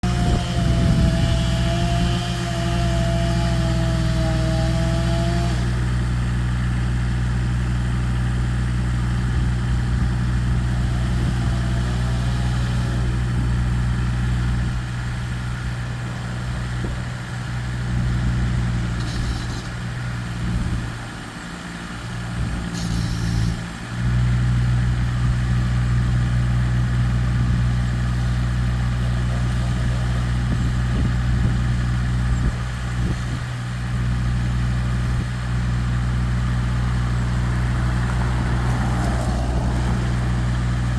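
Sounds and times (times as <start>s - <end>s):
large engine idling: 5.6s - 40.9s.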